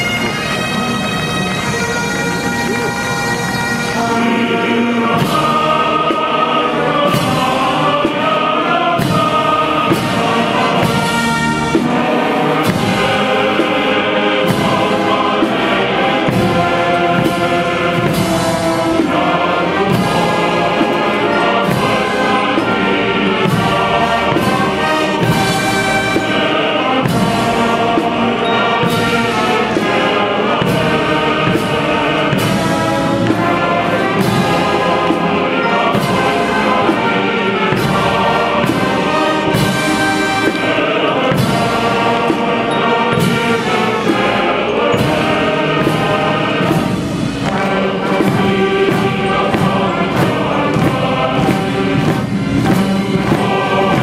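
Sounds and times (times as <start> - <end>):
military brass bands playing: 0.0 - 54.0
steady drum beat: 2.6 - 54.0.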